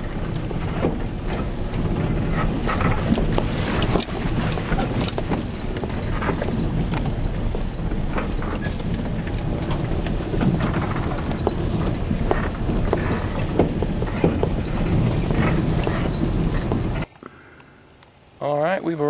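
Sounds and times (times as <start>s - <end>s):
rattles and knocks over bumps: 0.0s - 17.1s
vehicle rumbling on dirt road: 0.0s - 17.8s.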